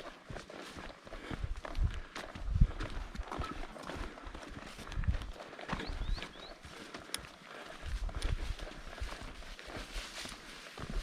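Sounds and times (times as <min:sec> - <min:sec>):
footsteps on a trail: 0:00.0 - 0:11.0.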